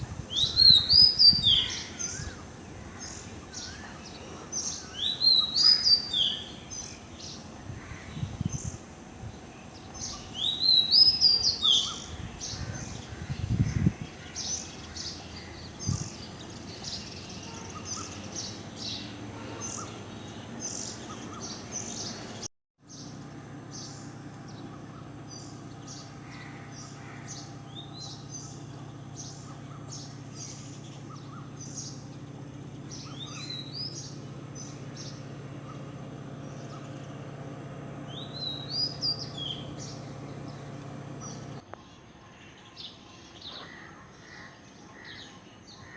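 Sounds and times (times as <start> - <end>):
bird warbling: 0.0 - 22.4, 24.7 - 41.6
steady low hum: 0.0 - 41.7
birds chirping: 0.0 - 45.9.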